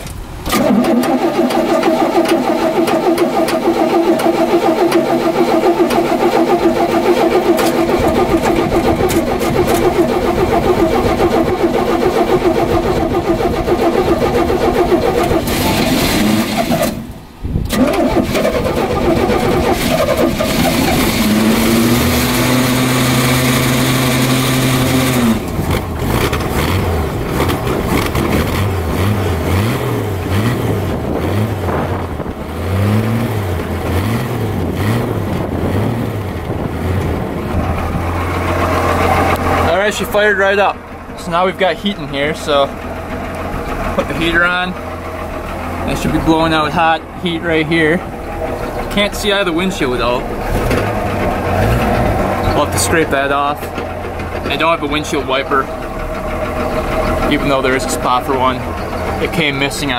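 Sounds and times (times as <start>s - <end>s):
engine starting and running: 0.0s - 59.9s.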